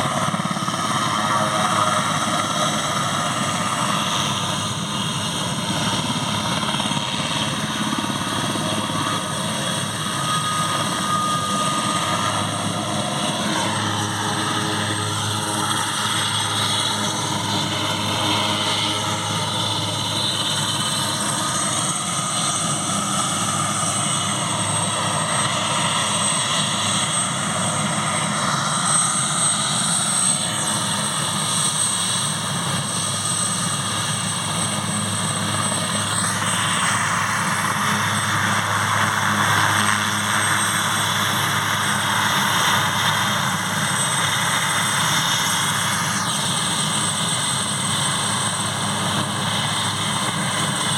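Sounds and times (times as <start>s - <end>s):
helicopter rotor beating: 0.0s - 50.9s
turbine whine: 0.0s - 50.9s.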